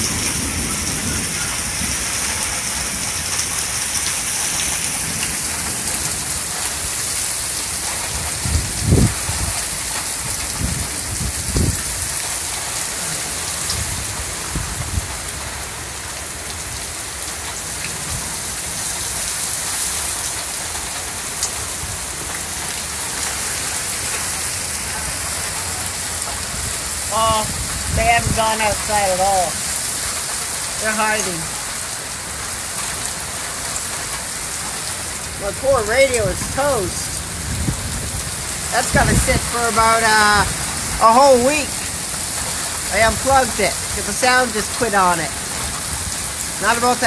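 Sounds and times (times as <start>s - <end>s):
low thunder rumbles: 0.0s - 18.8s, 20.6s - 41.0s
heavy rain pouring: 0.0s - 47.0s.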